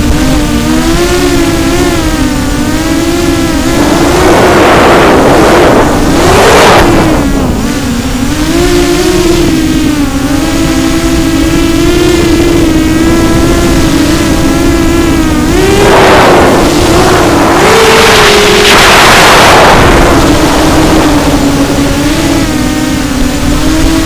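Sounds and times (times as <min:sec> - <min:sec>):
quadcopter motors whining: 0:00.0 - 0:24.0
wind noise: 0:00.0 - 0:24.0.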